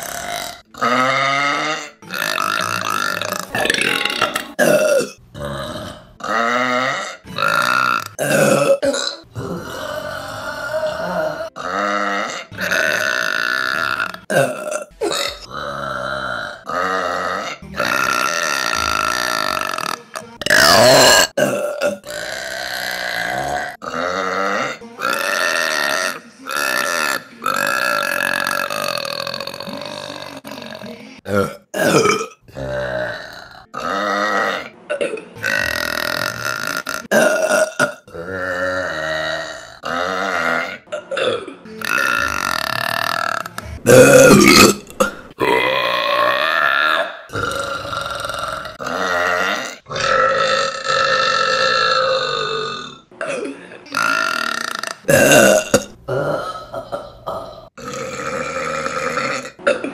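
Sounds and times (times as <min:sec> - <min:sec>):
woman burping: 0:00.0 - 0:59.9.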